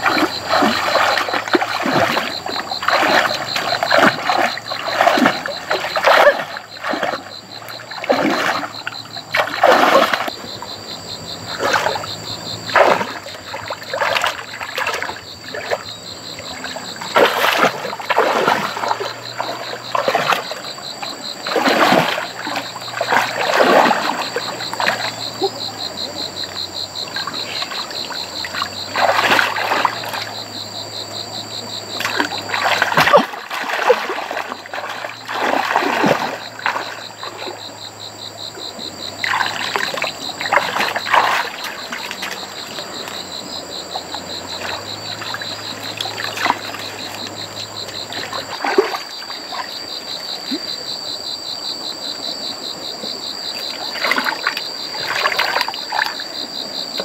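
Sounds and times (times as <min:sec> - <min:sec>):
chorus of calling animals: 0:00.0 - 0:51.2
water splashing and sloshing: 0:00.0 - 0:57.0.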